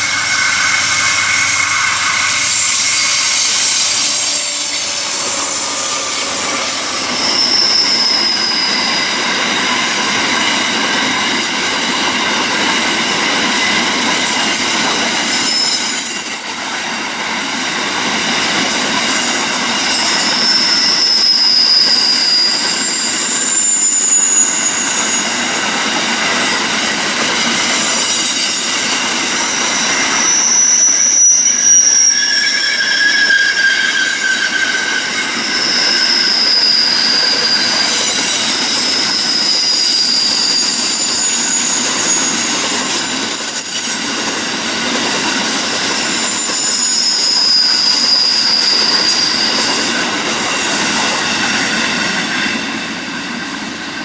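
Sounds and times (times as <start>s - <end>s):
high-pitched wheel squeal: 0.0s - 53.0s.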